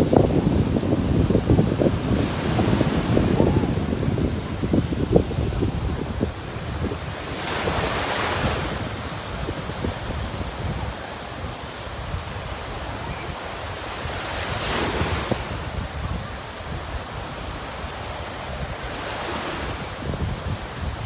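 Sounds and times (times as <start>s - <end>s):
sea surf breaking: 0.0s - 21.0s
wind buffeting microphone: 0.0s - 21.0s.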